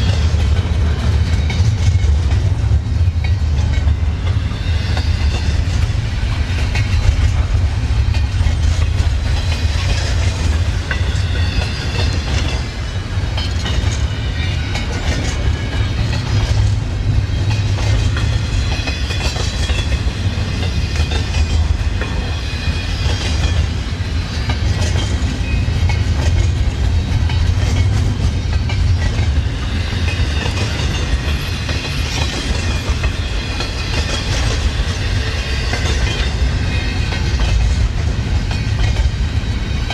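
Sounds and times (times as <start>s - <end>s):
freight train rumbling past: 0.0s - 39.9s
train wheel squeal: 3.1s - 39.9s.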